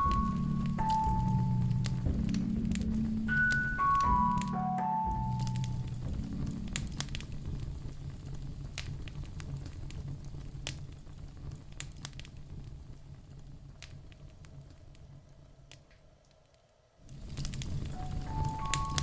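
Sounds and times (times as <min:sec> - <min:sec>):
low steady rumble: 0:00.0 - 0:16.3
wood fire crackling: 0:00.0 - 0:19.0.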